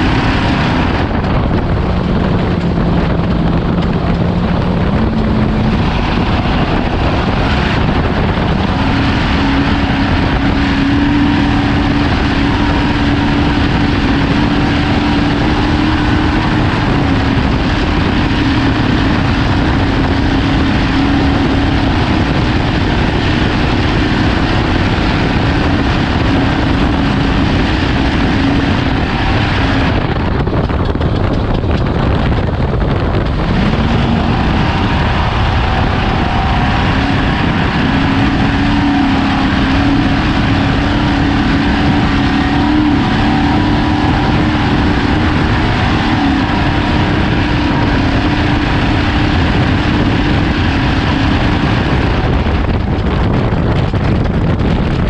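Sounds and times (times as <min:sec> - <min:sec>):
race truck engine: 0:00.0 - 0:55.0
road and wind rush: 0:00.0 - 0:55.0.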